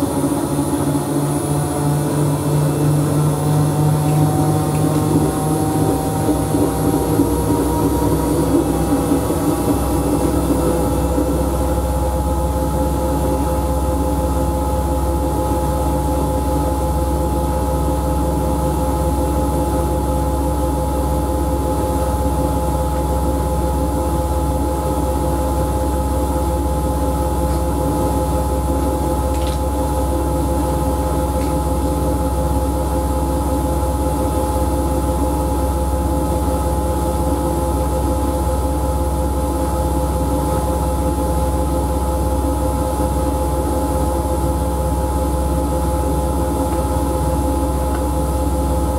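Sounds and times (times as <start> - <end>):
washing machine humming and whining: 0.0 - 48.9.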